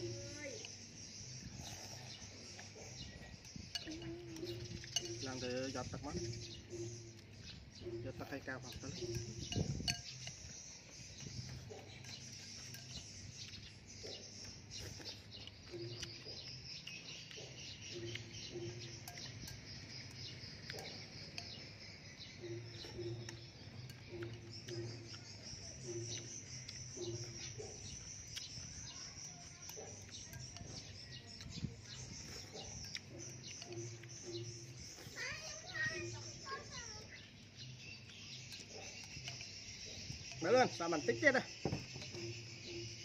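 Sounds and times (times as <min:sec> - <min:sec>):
birds and insects chirping: 0:00.0 - 0:43.0
chewing: 0:00.0 - 0:43.0.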